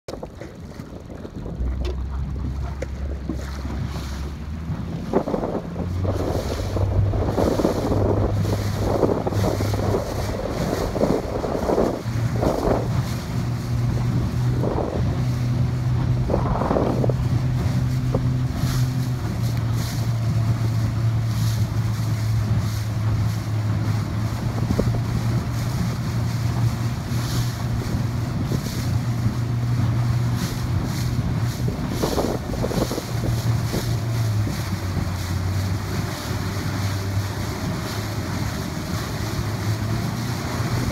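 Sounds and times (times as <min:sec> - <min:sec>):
outboard engine hum: 0:00.0 - 0:40.9
water rushing past boat: 0:00.0 - 0:40.9
wind buffeting microphone: 0:00.1 - 0:40.9.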